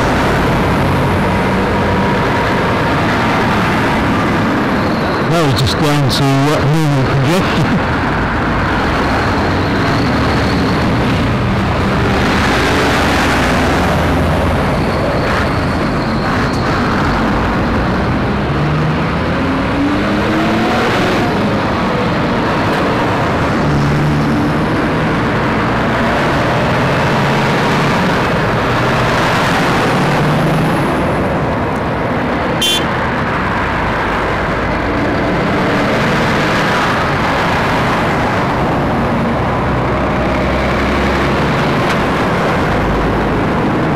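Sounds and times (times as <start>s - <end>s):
lorry diesel engines running: 0.0s - 43.9s
traffic and tyre noise: 0.0s - 43.9s.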